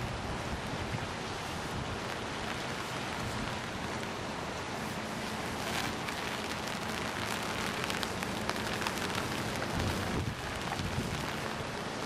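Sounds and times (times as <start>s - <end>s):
raindrops ticking on an umbrella: 0.0s - 12.0s
steady rain: 0.0s - 12.0s.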